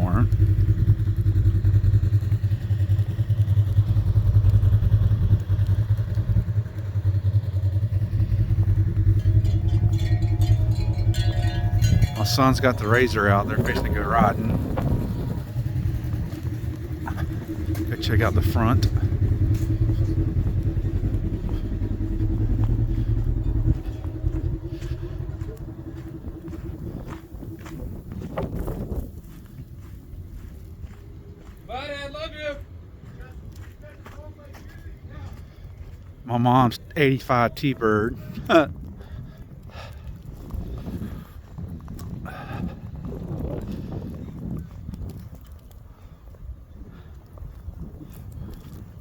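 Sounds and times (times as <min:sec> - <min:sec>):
engine idling: 0:00.0 - 0:41.5.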